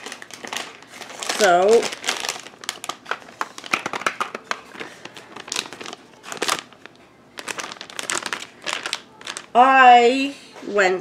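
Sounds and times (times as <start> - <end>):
foil bag crinkling: 0.0 - 9.9.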